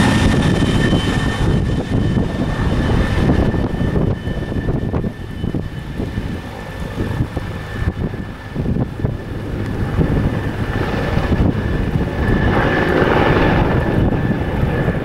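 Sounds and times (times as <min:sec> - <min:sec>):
helicopter rotor beat: 0:00.0 - 0:15.0
turbine engine whine: 0:00.0 - 0:15.0.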